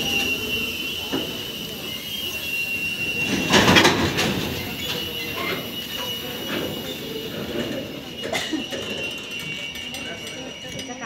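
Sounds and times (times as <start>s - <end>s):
high-pitched wheel squeal: 0.0s - 11.0s
train clattering: 0.0s - 11.0s
train wheels rolling on rails: 0.0s - 11.0s.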